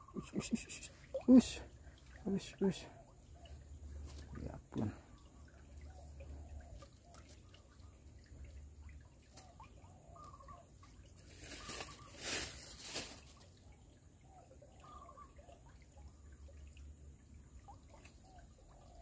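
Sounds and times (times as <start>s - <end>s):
stream water trickling: 0.0s - 19.0s.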